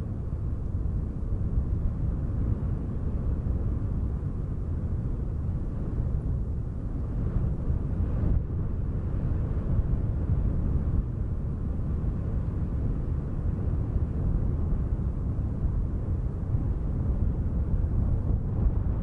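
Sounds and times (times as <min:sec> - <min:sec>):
low wind noise: 0:00.0 - 0:19.0.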